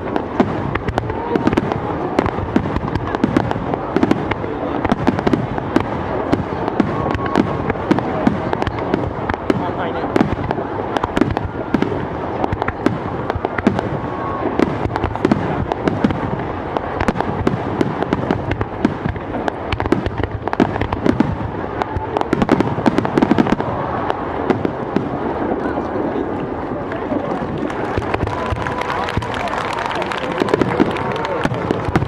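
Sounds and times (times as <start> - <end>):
continuous rumble: 0.0 - 32.0
fireworks bangs and crackles: 0.0 - 32.0.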